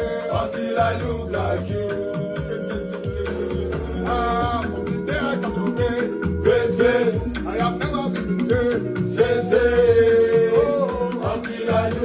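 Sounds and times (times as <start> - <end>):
bass: 0.0 - 12.0
person singing melody: 0.0 - 12.0
steady percussion: 0.0 - 12.0.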